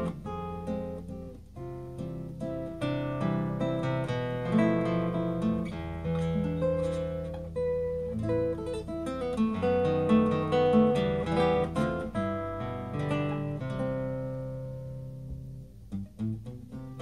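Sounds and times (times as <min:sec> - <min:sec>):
classical guitar fingerstyle: 0:00.0 - 0:17.0.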